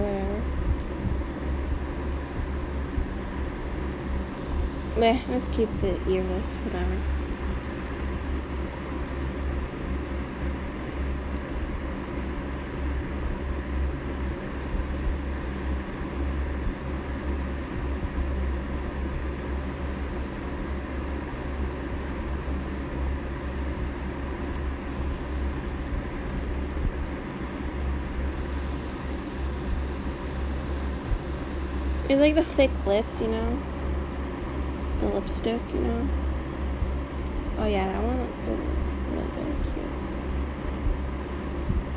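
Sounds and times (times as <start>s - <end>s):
steady low hum with hiss: 0.0s - 41.9s.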